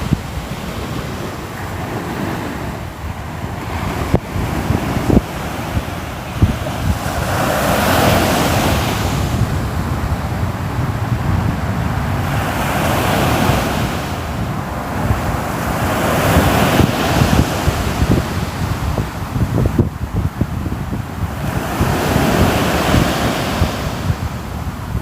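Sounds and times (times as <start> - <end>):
ocean waves washing in: 0.0 - 25.0.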